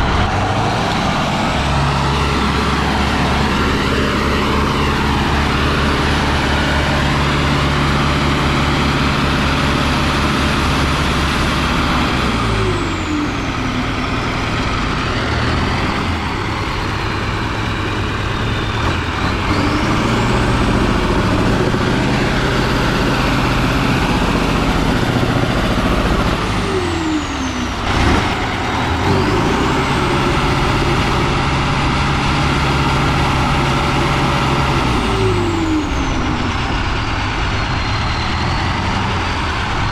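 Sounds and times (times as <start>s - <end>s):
high whine: 0.0s - 39.9s
truck engine under load: 0.0s - 39.9s.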